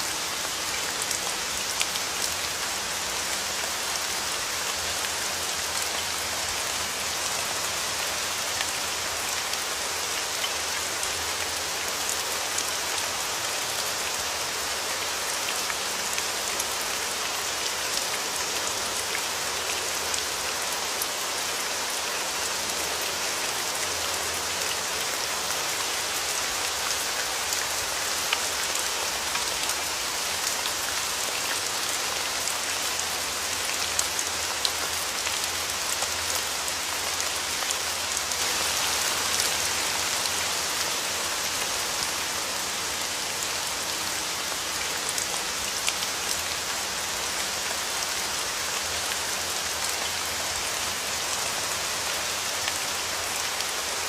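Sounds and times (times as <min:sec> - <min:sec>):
rain on hard surface: 0:00.0 - 0:54.0.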